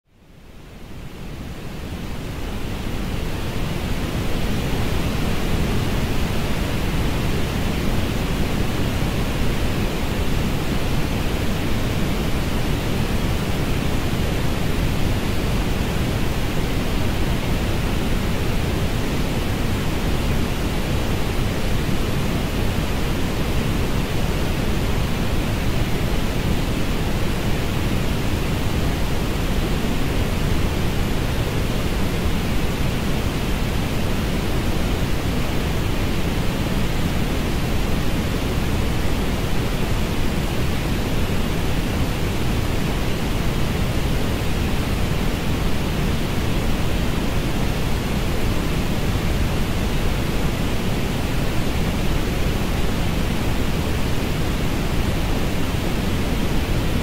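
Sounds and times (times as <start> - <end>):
low hiss of orange noise: 0.1 - 57.0.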